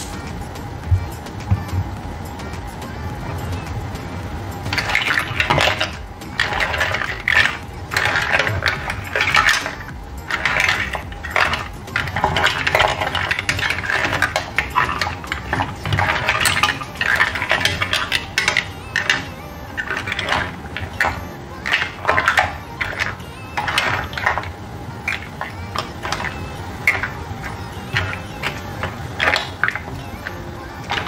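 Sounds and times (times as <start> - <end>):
mussel shells clattering in pan: 4.7 - 31.0.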